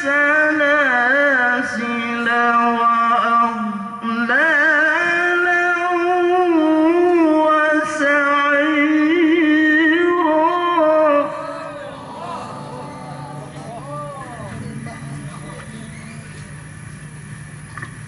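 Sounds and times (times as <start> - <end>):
man reciting melodically: 0.0 - 14.6.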